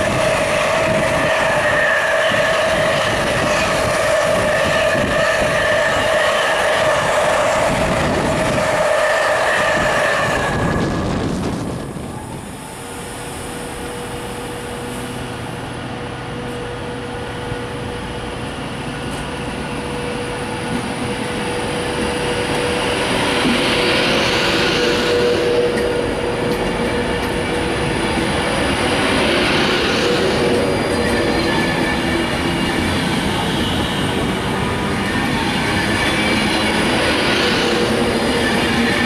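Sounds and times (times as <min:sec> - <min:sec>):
electric train whine: 0:00.0 - 0:39.0
hiss of train wheels: 0:00.0 - 0:39.0.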